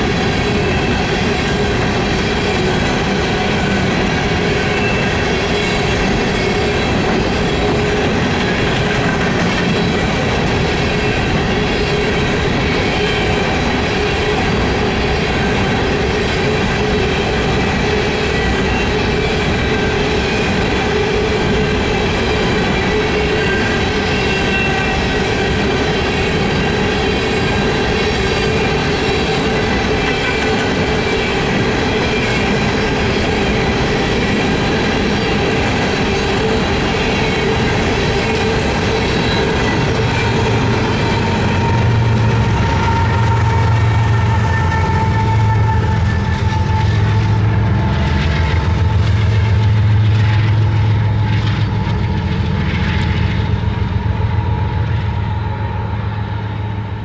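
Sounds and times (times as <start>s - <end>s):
continuous whine: 0.0s - 57.0s
train wheels rumbling on rail: 0.0s - 57.0s.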